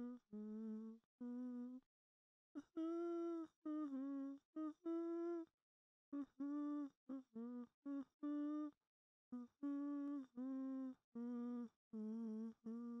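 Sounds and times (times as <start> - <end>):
person humming a slow tune: 0.0 - 1.8, 2.6 - 5.5, 6.1 - 13.0.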